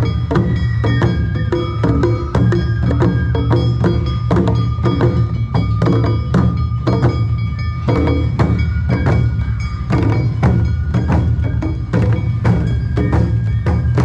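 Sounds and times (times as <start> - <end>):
festival dance band playing: 0.0 - 14.0
sharp rhythmic strikes: 0.0 - 14.0
strong drumming: 0.0 - 14.0.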